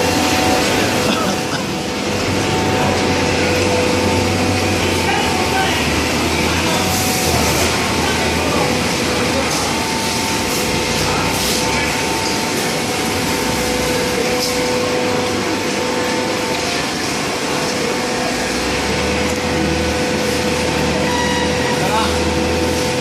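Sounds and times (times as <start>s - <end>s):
baler pump and motor humming: 0.0s - 23.0s.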